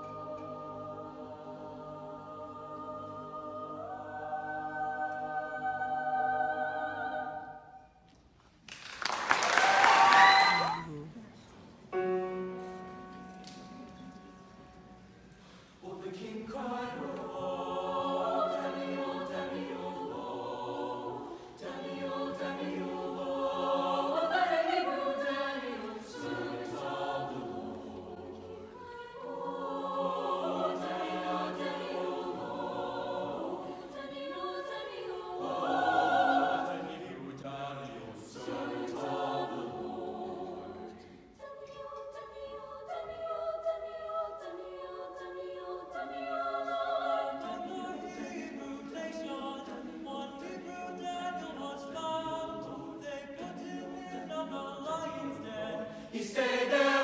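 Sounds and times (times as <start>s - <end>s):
choir singing in parts: 0.0s - 8.1s, 14.0s - 57.0s.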